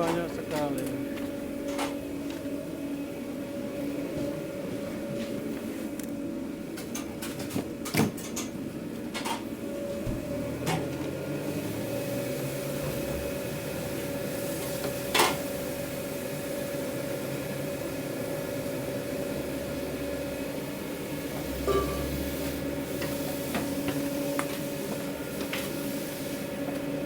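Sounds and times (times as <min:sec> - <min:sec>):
kitchen equipment hum: 0:00.0 - 0:27.0.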